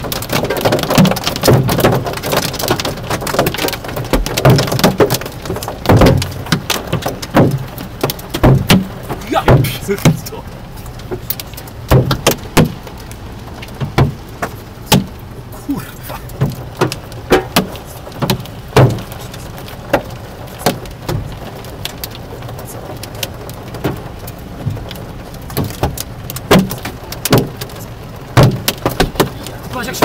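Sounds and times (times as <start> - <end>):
hailstones clacking on a car: 0.0 - 30.0
rain hissing on a car: 0.0 - 30.0.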